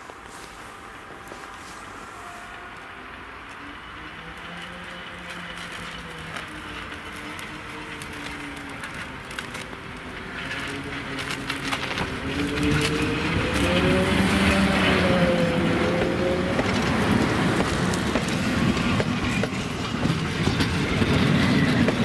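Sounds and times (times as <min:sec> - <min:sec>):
electric locomotive motors humming: 0:00.0 - 0:22.0
wheels clicking over rails: 0:02.5 - 0:22.0.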